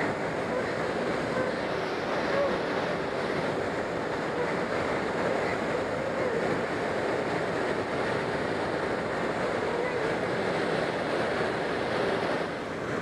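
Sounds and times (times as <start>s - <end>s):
air rushing over canopy: 0.0s - 13.0s
tow plane engine running: 0.0s - 13.0s.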